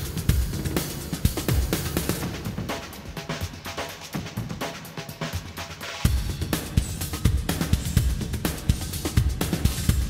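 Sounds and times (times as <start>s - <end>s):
music with drum beat: 0.0s - 10.0s.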